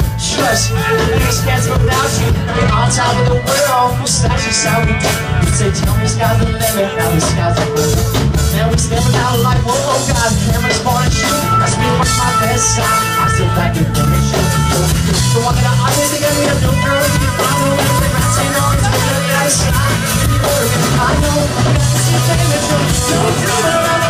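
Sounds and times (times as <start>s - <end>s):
drum kit: 0.0s - 24.0s
electric guitar: 0.0s - 24.0s.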